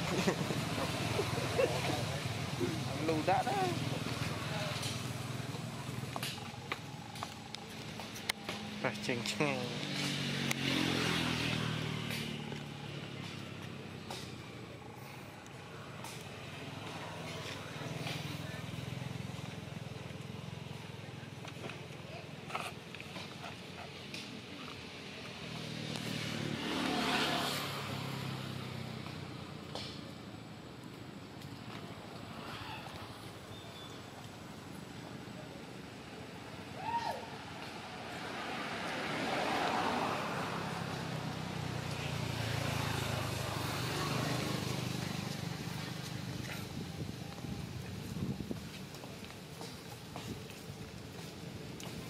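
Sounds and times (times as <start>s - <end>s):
motor vehicle passing by: 0.0s - 52.0s
outdoor background noise: 0.0s - 52.0s.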